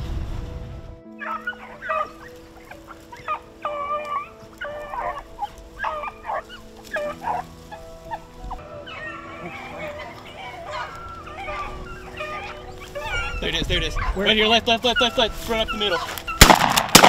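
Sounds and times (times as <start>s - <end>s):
hounds baying: 1.1s - 17.0s.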